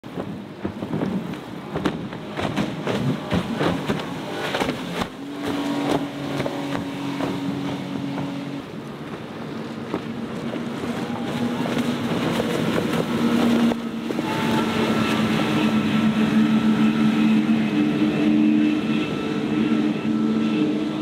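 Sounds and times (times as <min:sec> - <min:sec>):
hulls slapping waves: 0:00.0 - 0:21.0
outboard engine drone: 0:00.0 - 0:21.0
rushing water and spray: 0:00.0 - 0:21.0.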